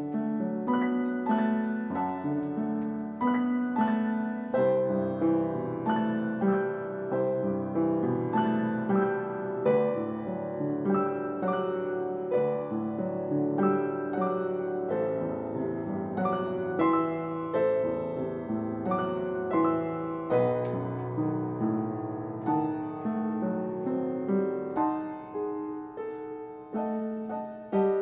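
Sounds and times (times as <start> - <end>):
upright piano playing: 0.0 - 28.0.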